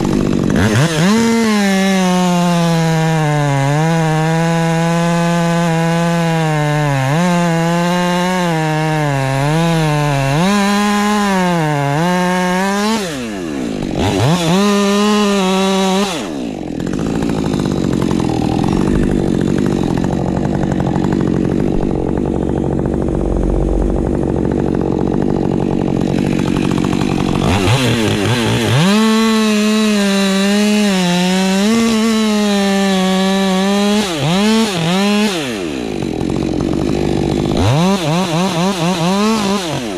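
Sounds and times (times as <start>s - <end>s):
chainsaw cutting wood: 0.0s - 39.9s
chainsaw idling: 0.0s - 39.9s.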